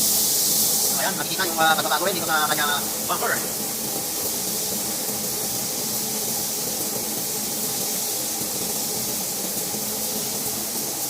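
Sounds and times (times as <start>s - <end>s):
paint spray gun hissing: 0.0s - 11.0s.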